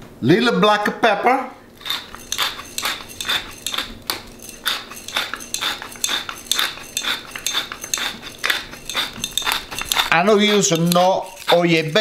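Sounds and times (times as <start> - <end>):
pepper mill grinding: 1.8 - 12.0.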